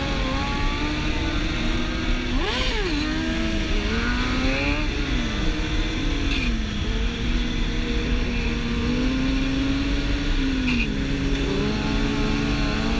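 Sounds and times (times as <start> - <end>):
motorcycle engine revving: 0.0 - 12.9
motorcycle engines running: 0.0 - 12.9.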